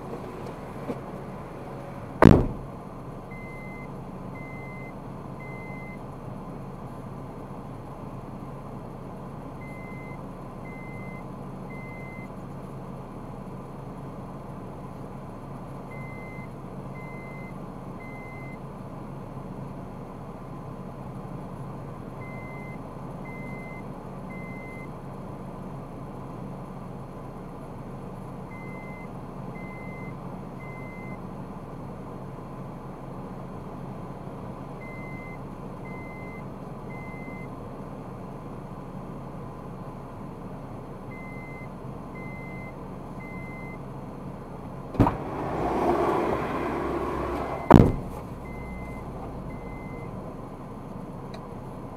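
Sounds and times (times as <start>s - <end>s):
vehicle engine hum: 0.0s - 51.9s.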